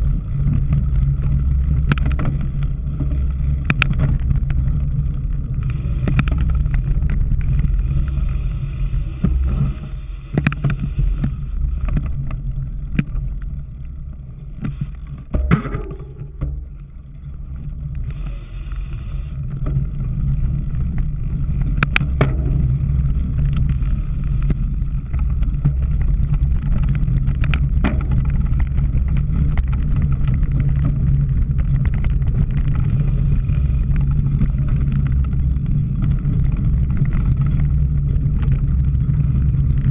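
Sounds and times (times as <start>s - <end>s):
bike clicks and rattles: 0.0s - 39.9s
wind rumbling on microphone: 0.0s - 39.9s.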